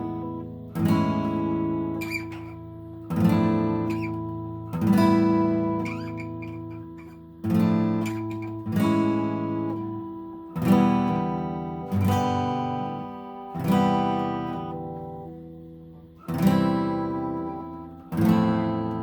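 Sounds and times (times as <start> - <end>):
acoustic guitar chords strummed: 0.0 - 19.0.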